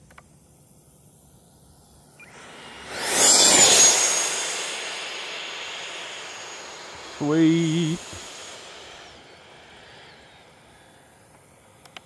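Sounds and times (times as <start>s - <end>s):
electric ducted fan jet passing: 1.8s - 11.8s.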